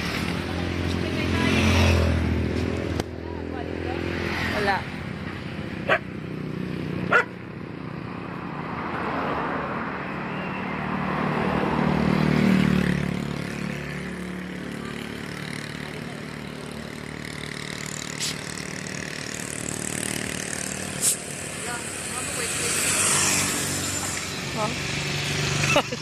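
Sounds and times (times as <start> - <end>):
vehicle passing by: 0.0 - 26.0.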